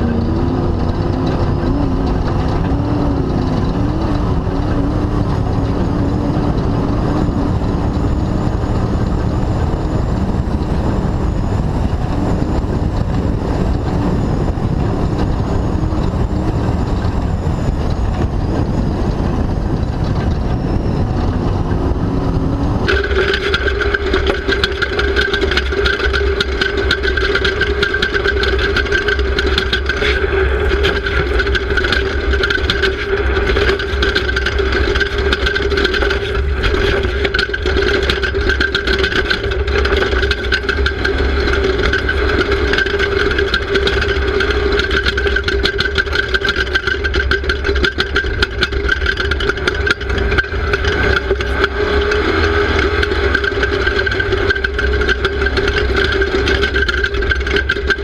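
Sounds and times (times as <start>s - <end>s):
high-pitched engine whine: 0.0s - 58.0s
race car engine running hard: 0.0s - 58.0s.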